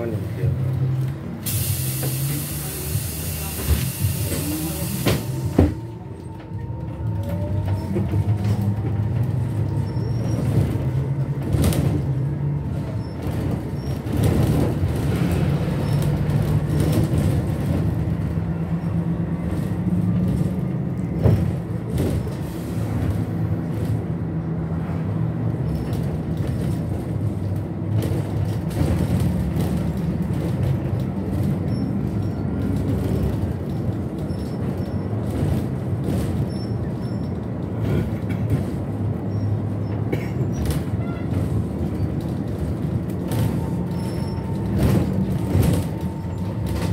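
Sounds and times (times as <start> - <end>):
road noise: 0.0 - 46.9.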